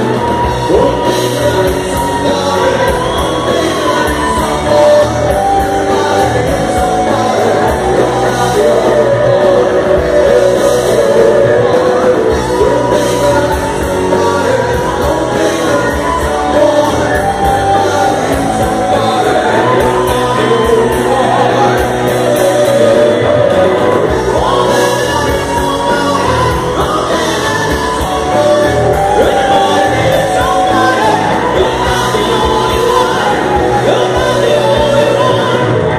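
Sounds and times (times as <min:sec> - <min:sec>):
person singing: 0:00.0 - 0:35.9
rock band playing live: 0:00.0 - 0:35.9.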